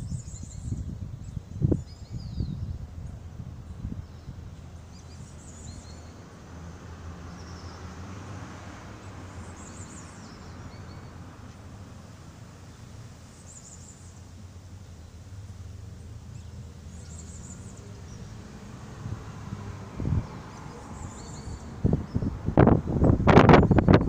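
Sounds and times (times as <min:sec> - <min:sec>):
small birds chirping: 0:00.0 - 0:06.4, 0:07.2 - 0:08.2, 0:09.0 - 0:24.0.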